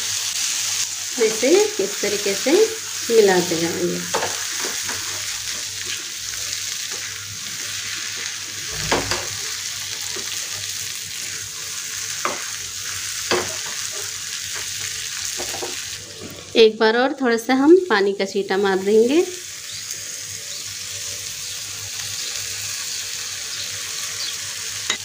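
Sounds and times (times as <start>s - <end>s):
okra sizzling in a pan: 0.0s - 25.0s.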